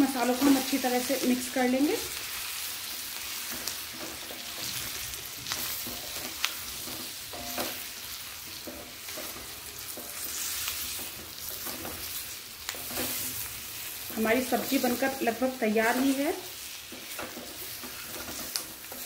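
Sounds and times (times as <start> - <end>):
oil sizzling in a pan: 0.0 - 19.0
spatula scraping: 3.3 - 19.0.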